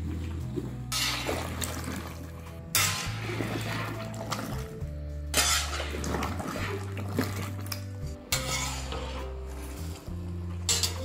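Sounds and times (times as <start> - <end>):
background music: 0.0 - 11.0
metal spatula scraping pan: 0.9 - 1.8, 2.7 - 11.0.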